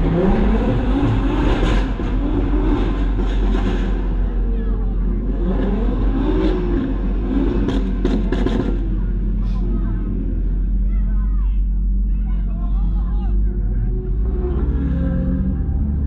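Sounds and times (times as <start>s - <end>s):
car engine rumble inside cabin: 0.0s - 16.0s.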